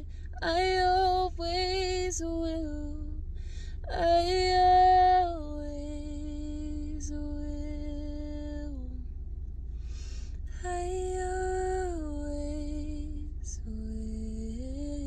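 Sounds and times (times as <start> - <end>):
woman singing: 0.0 - 3.2, 3.8 - 9.1, 10.5 - 15.0
low hum: 0.0 - 15.0.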